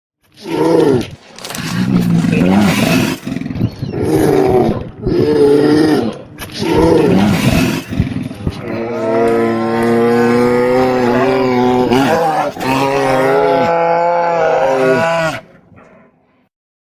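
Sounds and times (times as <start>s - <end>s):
bear roaring: 0.3s - 16.4s
bear bellowing call: 0.4s - 16.2s.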